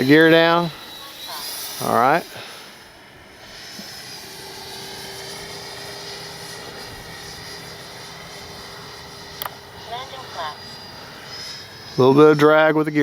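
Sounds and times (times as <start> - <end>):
electric ducted fan whining: 0.0 - 13.0.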